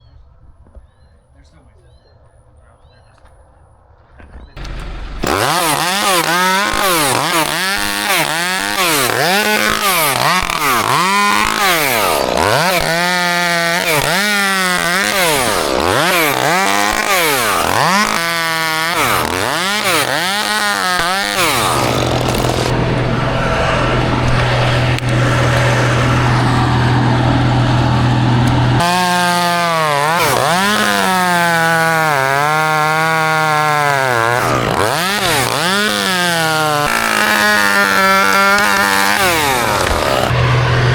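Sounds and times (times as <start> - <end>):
chainsaw revving: 4.6 - 40.9.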